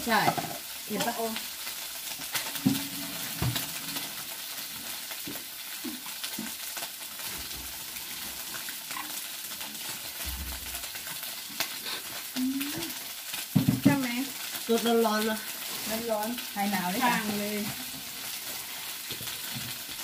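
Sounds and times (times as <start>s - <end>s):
pork sizzling on grill: 0.0s - 20.0s.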